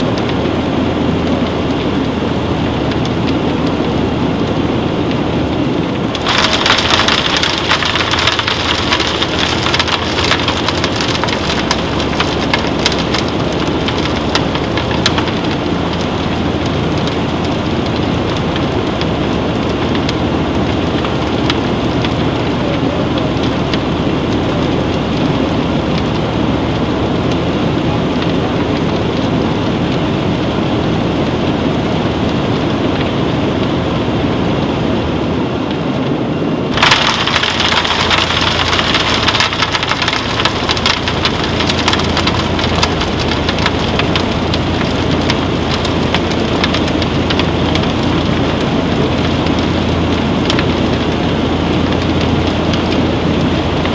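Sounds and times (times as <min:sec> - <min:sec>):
steady low hum: 0:00.0 - 0:53.9
grains pattering on steel: 0:06.1 - 0:33.1, 0:36.7 - 0:53.9.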